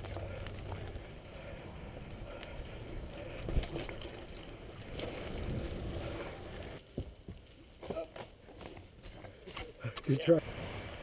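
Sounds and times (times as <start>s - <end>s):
bike rattling over dirt trail: 0.0s - 9.6s.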